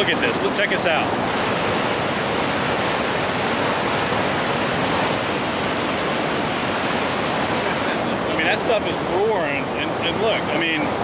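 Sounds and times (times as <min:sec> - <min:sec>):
water rushing over a dam: 0:00.0 - 0:11.0.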